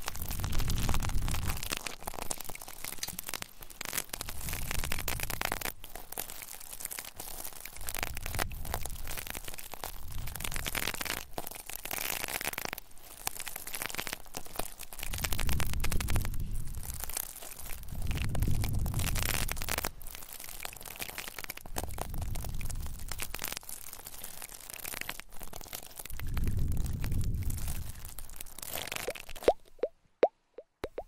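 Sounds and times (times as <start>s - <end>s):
crackling and scratching on microphone: 0.0s - 31.0s.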